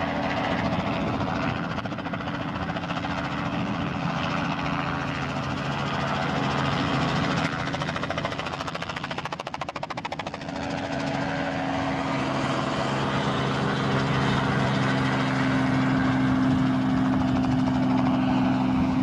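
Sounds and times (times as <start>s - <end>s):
helicopter engine and rotor drone: 0.0s - 19.0s
helicopter rotor chopping: 0.0s - 19.0s.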